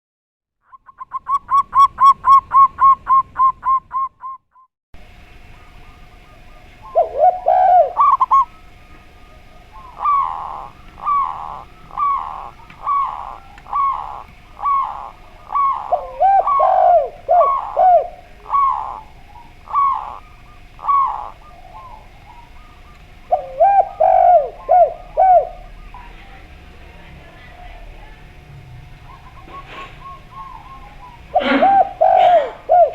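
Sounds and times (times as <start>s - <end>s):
doves cooing: 0.8s - 4.4s, 5.0s - 32.9s
faint steady hum: 5.0s - 32.9s.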